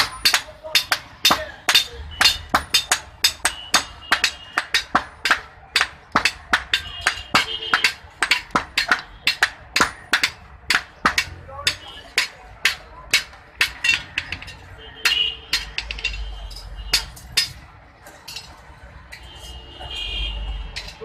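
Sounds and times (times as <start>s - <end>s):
hammer striking iron on anvil: 0.0s - 17.6s.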